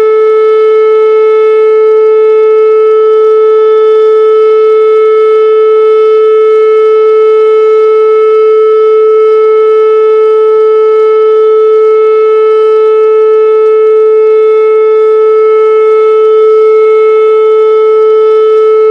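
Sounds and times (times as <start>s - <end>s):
steady alarm tone: 0.0s - 18.9s.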